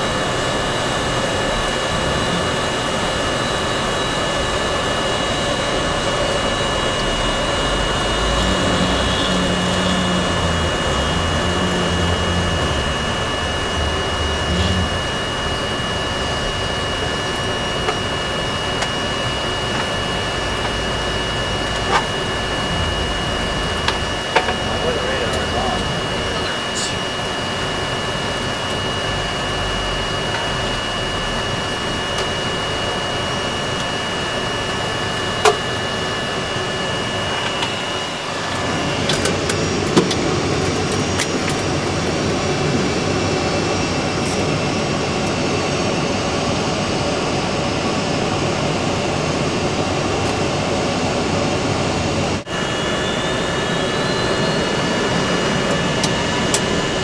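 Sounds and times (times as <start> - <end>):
high whine: 0.0 - 57.0
jet engines roaring: 0.0 - 57.0.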